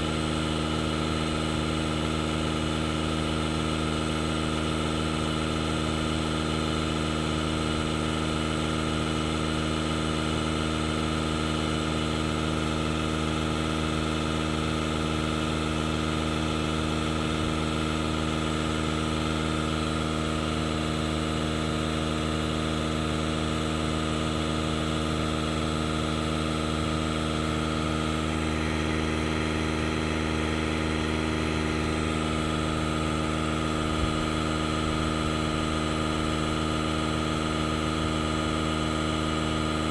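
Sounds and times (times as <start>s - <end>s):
tire inflator motor drone: 0.0s - 39.9s.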